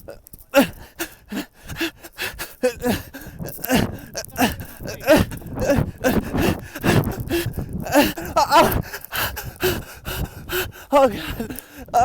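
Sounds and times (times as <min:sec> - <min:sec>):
man groaning and gasping: 0:00.5 - 0:12.0
wind buffeting microphone: 0:00.7 - 0:12.0.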